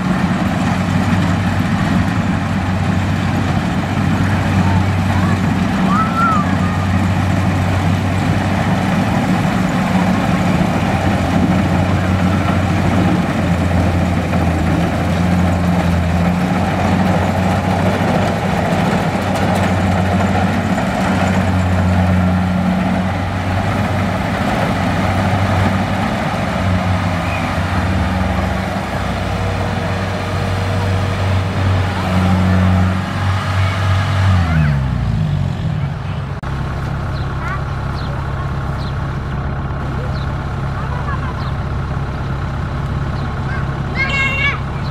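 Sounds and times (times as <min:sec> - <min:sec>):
combine harvester engine running: 0:00.0 - 0:44.9.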